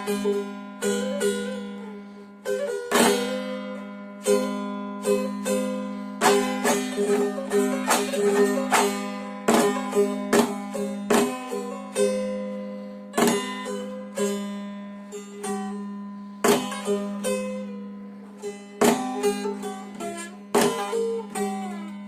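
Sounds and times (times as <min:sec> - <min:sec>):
plucked lute melody with drone: 0:00.0 - 0:22.0.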